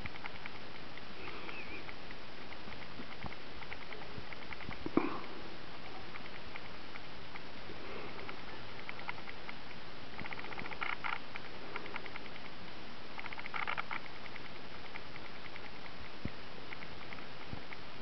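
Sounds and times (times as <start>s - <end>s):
rapid clicking chatter: 0.0s - 17.9s
steady hiss: 0.0s - 18.0s.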